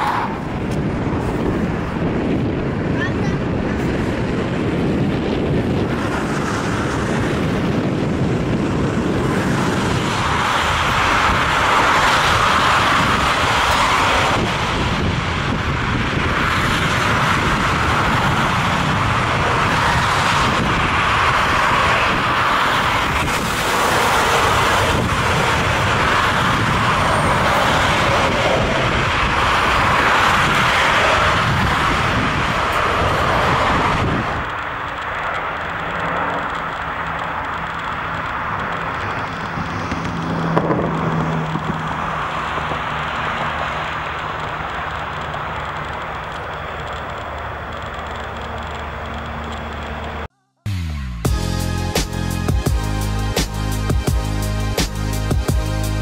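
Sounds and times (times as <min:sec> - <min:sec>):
jet engines roaring: 0:00.0 - 0:50.3.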